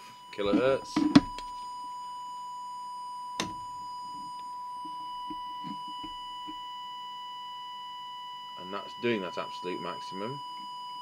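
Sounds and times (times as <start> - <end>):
steady test tone: 0.2 - 2.3, 3.0 - 10.6.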